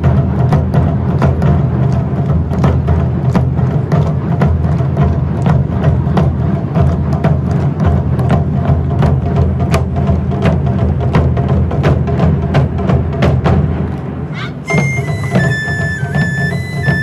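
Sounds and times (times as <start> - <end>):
sharp clicking drum strikes: 0.0 - 14.1
taiko drums booming: 0.0 - 17.0.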